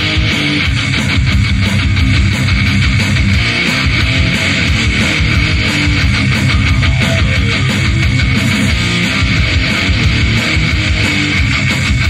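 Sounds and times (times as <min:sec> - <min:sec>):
loud rock music with electric guitars: 0:00.0 - 0:12.0.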